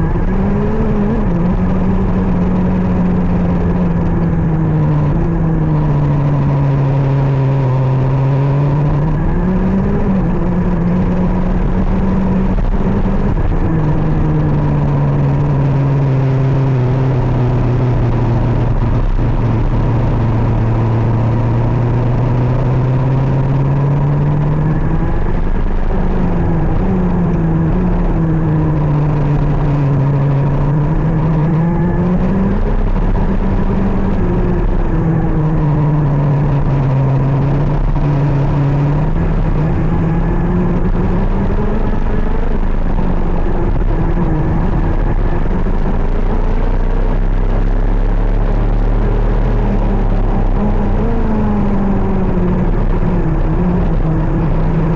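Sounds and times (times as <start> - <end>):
kart engine running hard: 0.0 - 54.9.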